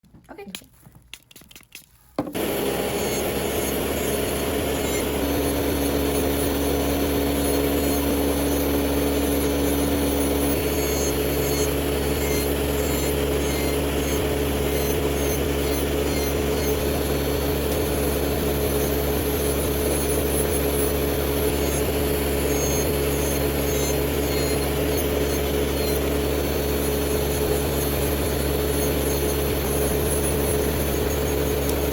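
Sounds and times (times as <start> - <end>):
small electric motor humming: 2.4 - 31.9.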